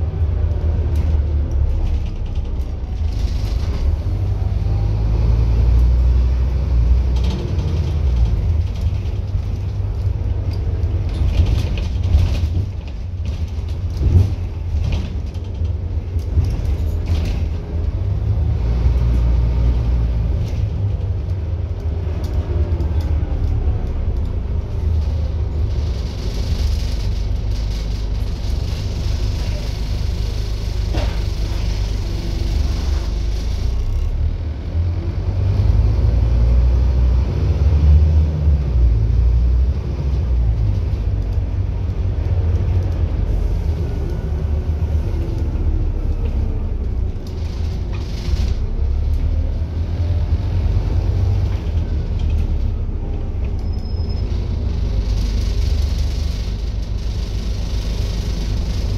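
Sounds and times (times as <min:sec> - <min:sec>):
bus diesel engine rumble: 0:00.0 - 0:58.9
road noise: 0:00.0 - 0:58.9.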